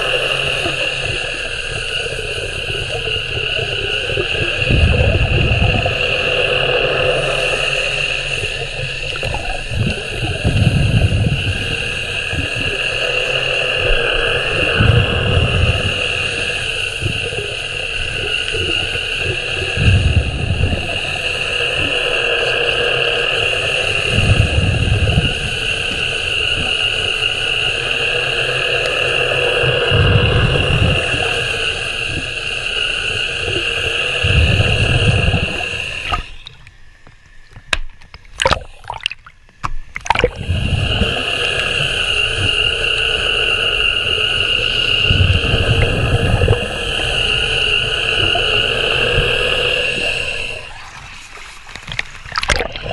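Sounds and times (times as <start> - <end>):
low rumble: 0.0 - 37.0, 40.0 - 52.9
underwater hull brush whining: 0.0 - 38.4, 39.9 - 52.9.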